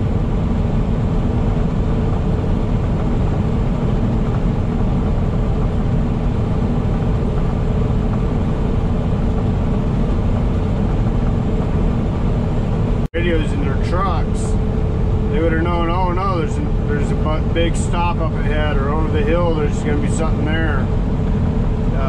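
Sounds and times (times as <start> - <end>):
truck engine and tyre drone: 0.0 - 22.0.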